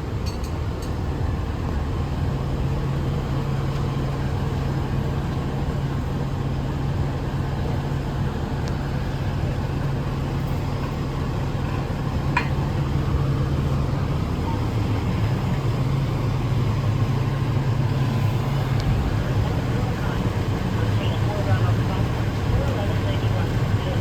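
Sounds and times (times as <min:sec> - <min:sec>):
fire engine droning: 0:00.0 - 0:24.0.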